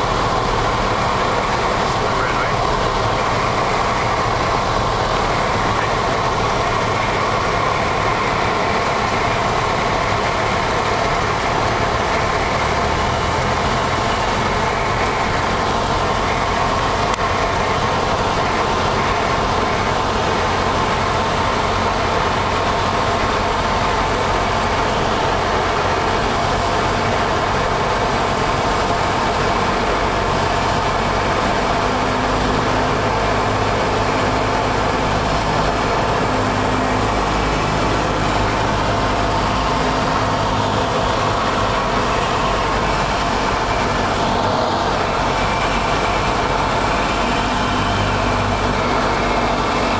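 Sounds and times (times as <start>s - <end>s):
propeller plane engine droning: 0.0s - 49.9s.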